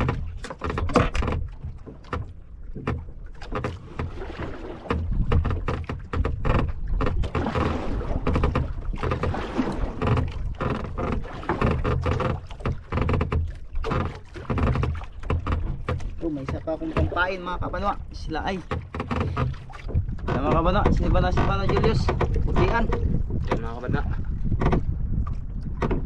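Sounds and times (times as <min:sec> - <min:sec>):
knocks and splashes in boat: 0:00.0 - 0:26.0
water lapping against boat hull: 0:00.0 - 0:26.0.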